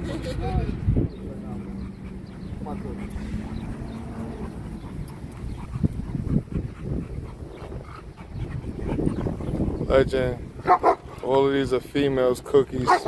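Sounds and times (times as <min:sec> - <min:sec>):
dogs panting and sniffing: 0:00.0 - 0:13.0.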